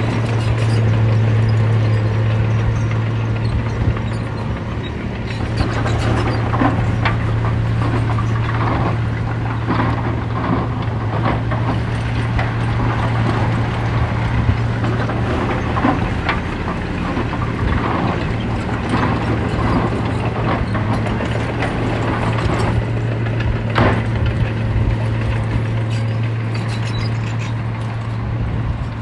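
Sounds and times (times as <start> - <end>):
diesel machine engine running: 0.0 - 29.0
metallic clanks and rattles: 0.0 - 29.0.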